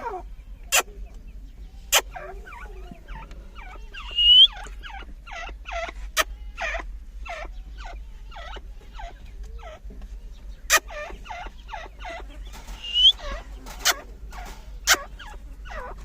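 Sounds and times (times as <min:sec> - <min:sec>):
partridges calling: 0:00.0 - 0:16.0.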